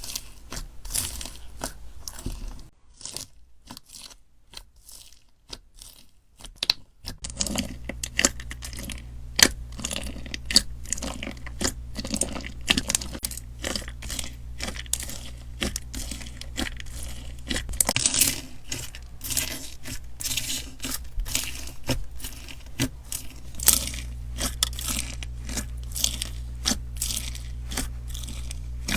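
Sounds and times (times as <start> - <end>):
slime squelching and crackling: 0.0 - 28.9.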